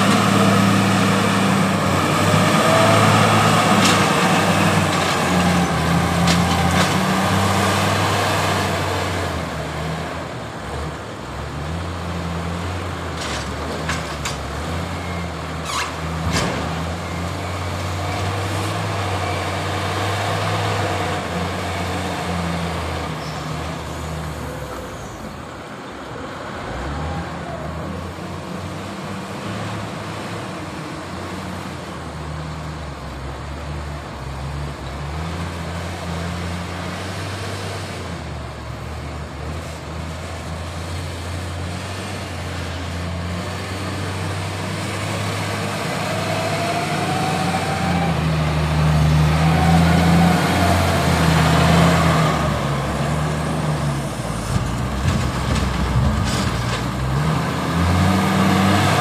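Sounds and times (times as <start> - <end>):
wheel loader diesel engine: 0.0 - 59.0.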